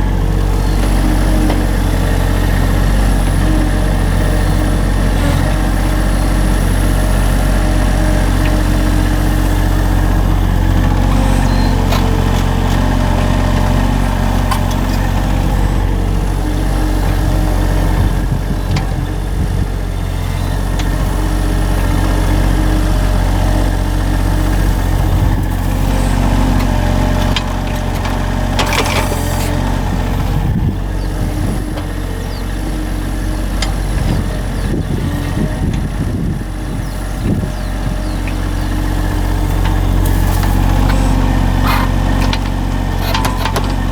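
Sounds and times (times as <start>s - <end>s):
engine running at low speed: 0.0s - 43.9s.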